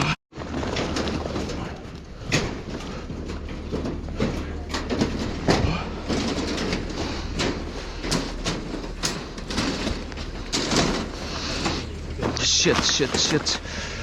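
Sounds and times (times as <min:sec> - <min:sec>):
low machine hum: 0:00.4 - 0:14.0
steel bars clanking: 0:02.2 - 0:13.8.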